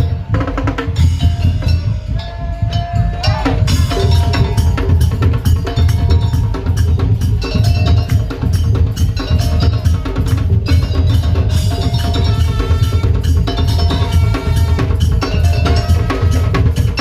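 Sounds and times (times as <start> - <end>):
heavy bass drum: 0.0 - 17.0.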